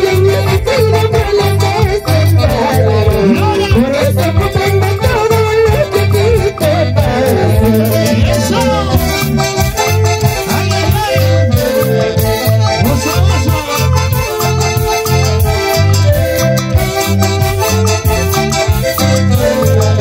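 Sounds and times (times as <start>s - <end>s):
live latin dance band: 0.0s - 20.0s
saxophone section: 2.4s - 20.0s.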